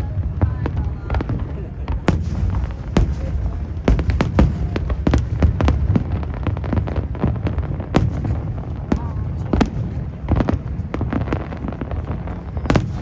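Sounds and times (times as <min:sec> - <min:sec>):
fireworks cracking and banging: 0:00.0 - 0:13.0
low rumble of booms: 0:00.0 - 0:13.0.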